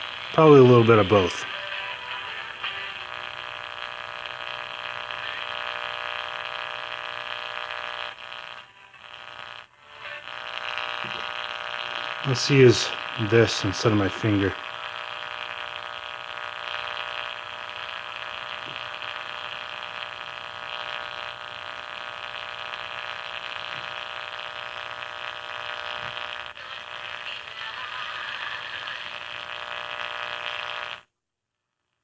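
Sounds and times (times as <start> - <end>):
whining interference tones: 0.0 - 31.0
radio static hiss: 0.0 - 31.1.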